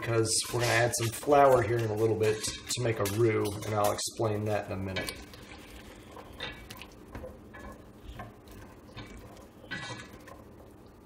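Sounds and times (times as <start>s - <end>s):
whisk tapping and scraping pot: 0.0s - 11.0s.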